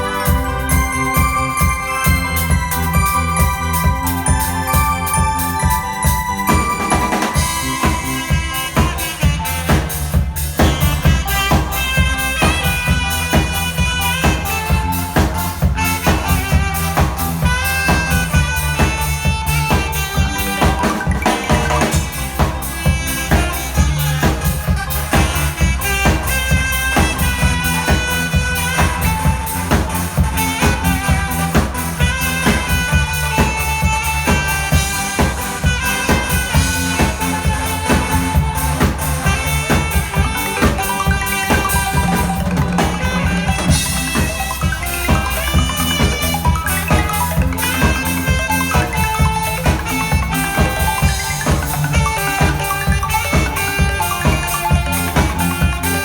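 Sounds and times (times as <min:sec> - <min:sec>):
bass line: 0:00.0 - 0:56.0
drum kit beat: 0:00.0 - 0:56.0
saxophone melody: 0:00.0 - 0:56.0.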